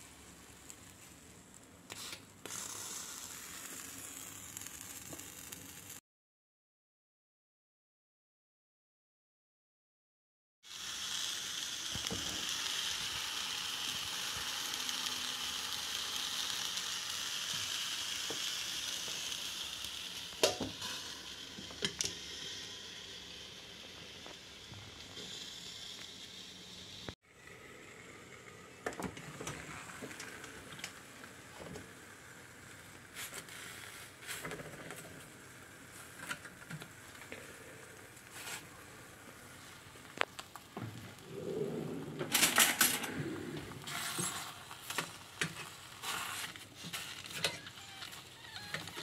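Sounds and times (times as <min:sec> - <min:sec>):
peppers sizzling on hot stone: 0:00.0 - 0:06.0, 0:10.6 - 0:41.4, 0:42.4 - 0:49.0.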